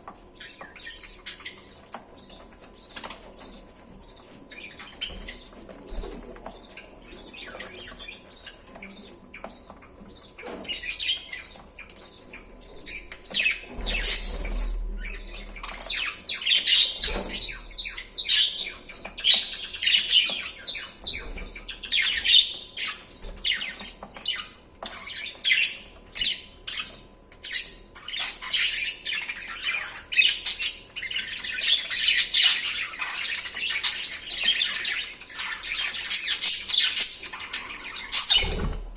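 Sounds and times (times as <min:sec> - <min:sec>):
budgies chirping and squawking: 0:00.1 - 0:38.9.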